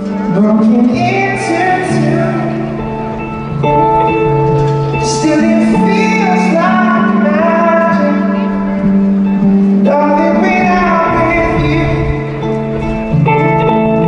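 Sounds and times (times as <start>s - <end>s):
man singing slow melody: 0.0s - 3.6s, 4.9s - 12.9s
guitar accompaniment: 0.0s - 14.0s.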